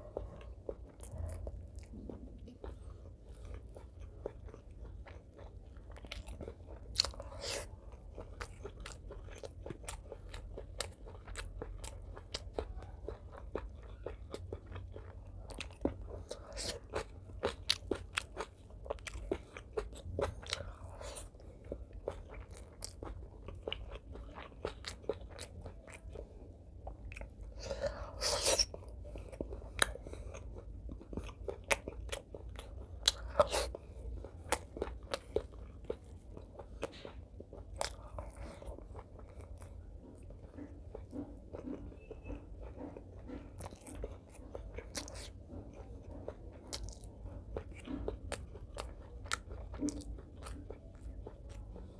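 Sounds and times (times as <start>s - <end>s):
chewing with wet smacks: 0.0s - 51.9s.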